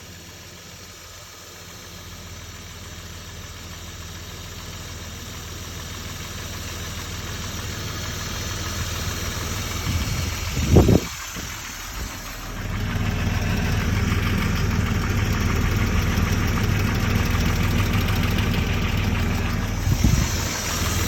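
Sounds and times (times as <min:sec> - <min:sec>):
car engine idling with knock: 0:00.1 - 0:21.0.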